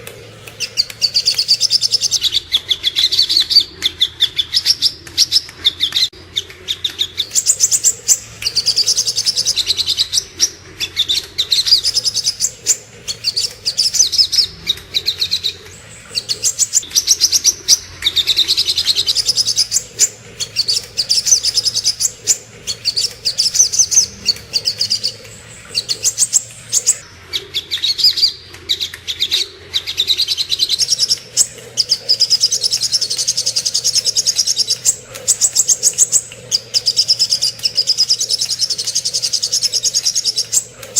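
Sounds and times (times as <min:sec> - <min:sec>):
bird trilling song: 0:00.0 - 0:40.9.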